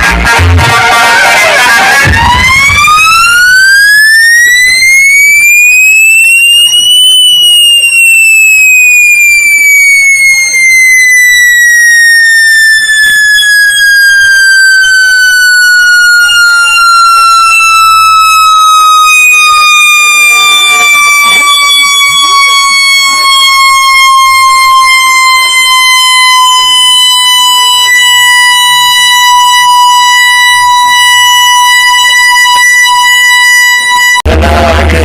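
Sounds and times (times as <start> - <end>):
siren-like electronic tone: 0.0 - 35.0.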